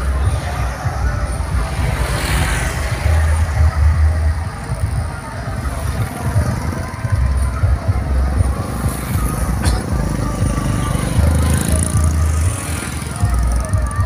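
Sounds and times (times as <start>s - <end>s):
heavy pulsing bass: 0.0s - 14.0s.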